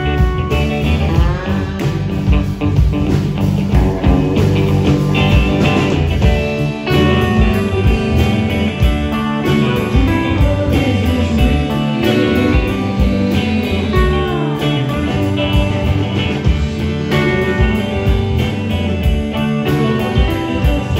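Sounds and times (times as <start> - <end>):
electric guitar through amplifier: 0.0 - 20.9
steady beat: 0.0 - 20.9.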